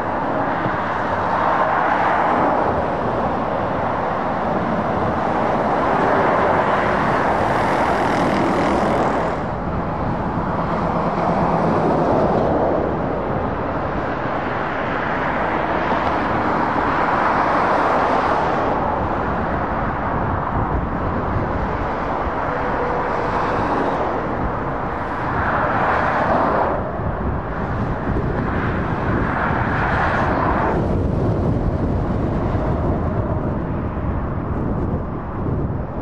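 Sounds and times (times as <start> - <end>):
motorway traffic noise: 0.0 - 36.0.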